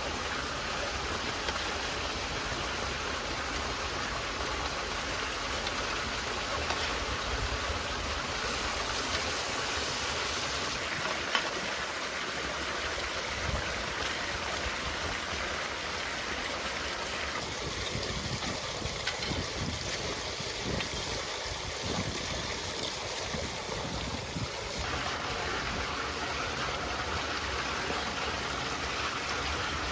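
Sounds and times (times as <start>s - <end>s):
stream flowing: 0.0s - 29.9s.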